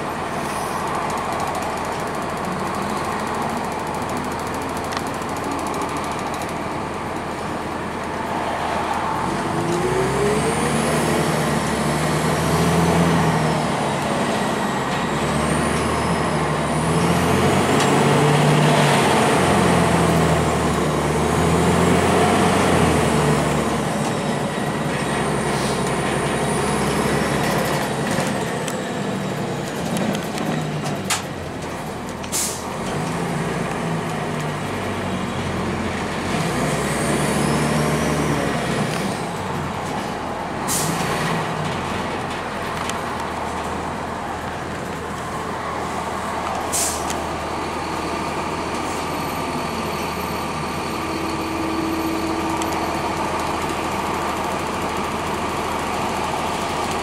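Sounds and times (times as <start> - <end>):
high transmission whine: 0.0 - 40.7, 41.3 - 57.0
bus diesel engine: 0.0 - 57.0.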